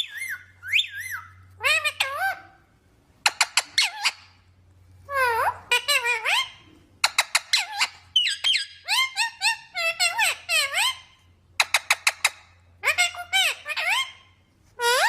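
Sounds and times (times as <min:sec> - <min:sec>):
parrot chirping and squawking: 0:00.0 - 0:04.5, 0:05.1 - 0:15.0.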